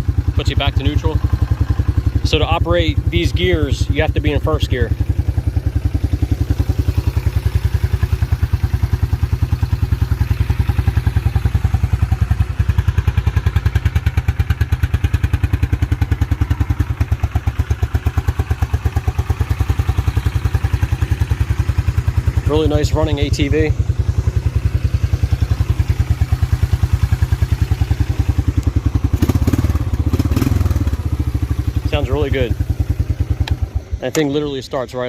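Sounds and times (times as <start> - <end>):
atv engine idling: 0.0 - 35.0.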